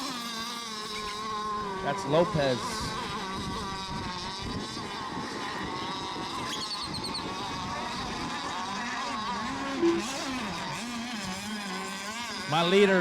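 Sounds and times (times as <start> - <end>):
racing boat motors whining: 0.0 - 13.0.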